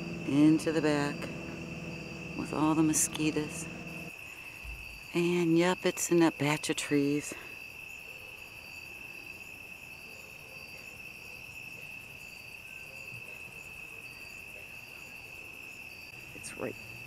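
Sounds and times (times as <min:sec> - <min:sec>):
cricket chirps: 0:00.0 - 0:17.0
insects trilling: 0:00.0 - 0:17.0.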